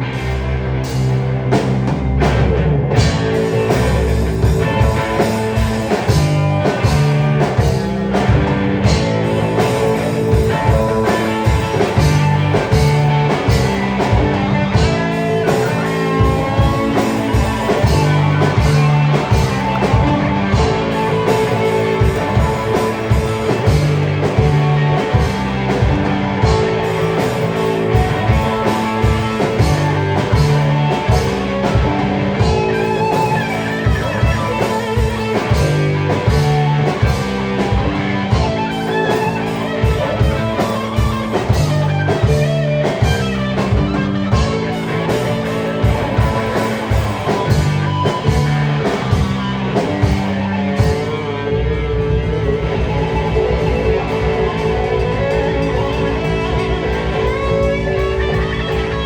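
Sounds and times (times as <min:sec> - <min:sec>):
drum kit beat: 0:00.0 - 0:59.0
guitar: 0:00.0 - 0:59.0
rock band playing live: 0:00.0 - 0:59.0.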